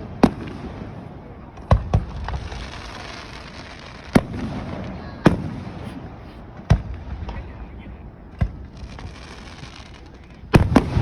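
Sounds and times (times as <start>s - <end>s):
background rush of noise: 0.0s - 11.0s
firework bangs: 0.0s - 11.0s.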